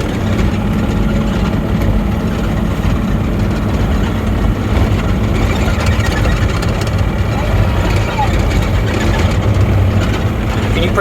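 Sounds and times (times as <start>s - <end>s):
diesel engine running: 0.0s - 11.0s
light rattling: 0.0s - 11.0s.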